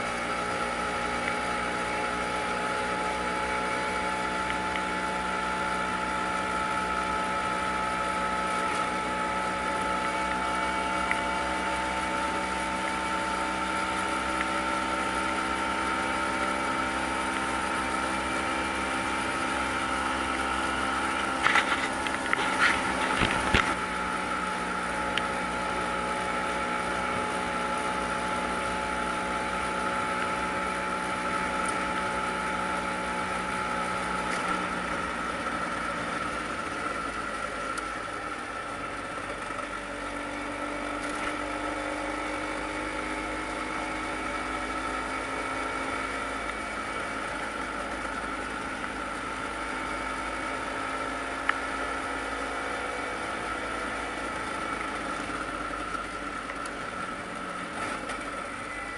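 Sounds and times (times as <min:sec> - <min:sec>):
scooter engine running: 0:00.0 - 0:58.9.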